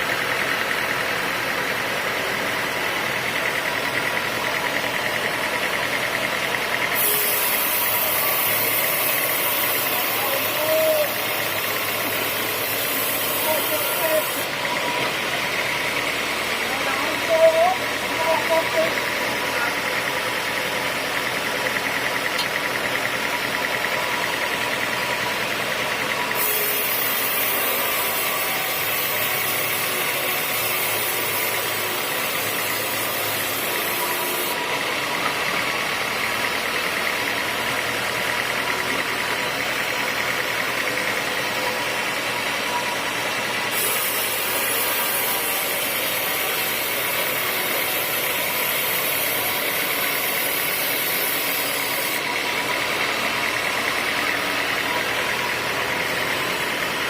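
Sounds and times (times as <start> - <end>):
sawmill motor drone: 0.0 - 57.0.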